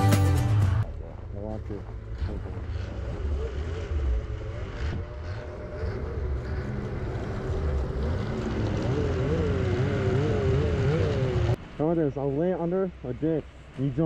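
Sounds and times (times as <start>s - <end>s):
snowmobile engines passing: 1.3s - 14.0s.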